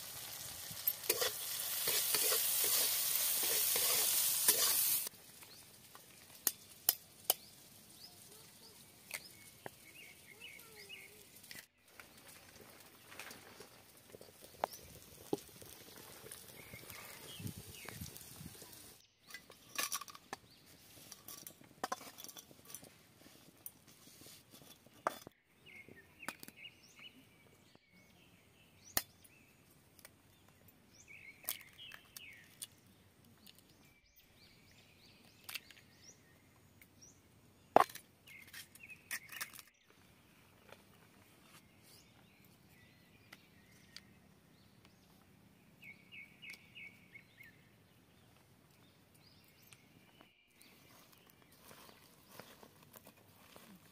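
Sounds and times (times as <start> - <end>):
small birds chirping: 0.2 - 53.9.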